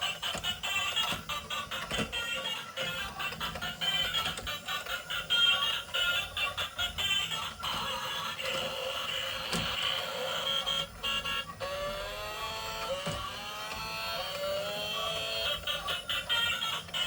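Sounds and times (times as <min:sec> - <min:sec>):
toy electronic engine sound: 0:00.0 - 0:17.0.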